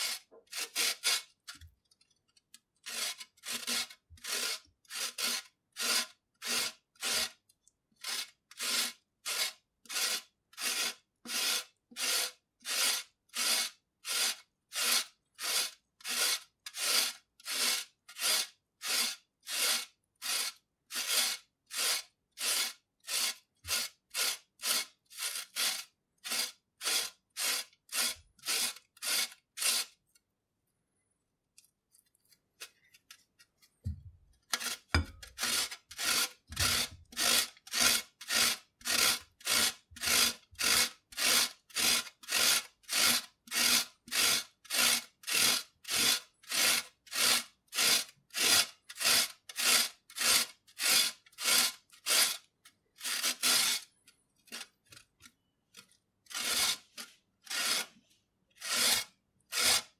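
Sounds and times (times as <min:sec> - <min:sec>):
carrot rasping on metal grater: 0:00.0 - 0:01.7, 0:02.8 - 0:07.4, 0:08.0 - 0:30.0, 0:34.5 - 0:53.9, 0:56.3 - 0:59.9.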